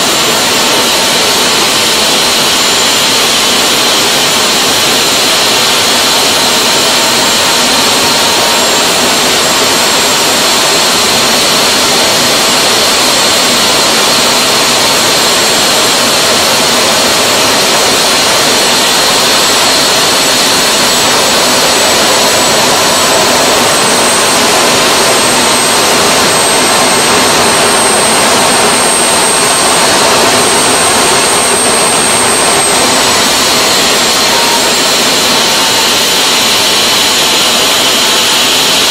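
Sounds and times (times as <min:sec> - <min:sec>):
jet engine roar with whine: 0:00.0 - 0:38.9.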